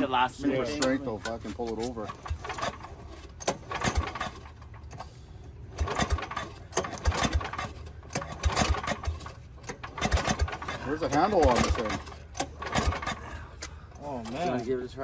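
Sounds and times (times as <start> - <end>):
lawn mower recoil pull-start: 0.7 - 14.9.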